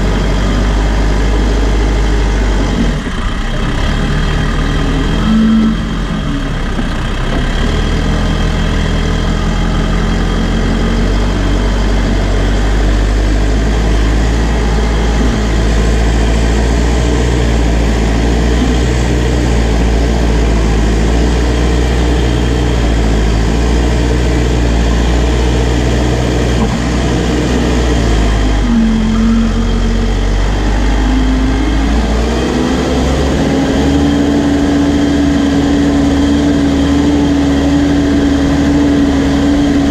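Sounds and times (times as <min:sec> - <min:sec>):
backhoe diesel engine running: 0:00.0 - 0:39.9
rising higher engine tone: 0:00.0 - 0:39.9.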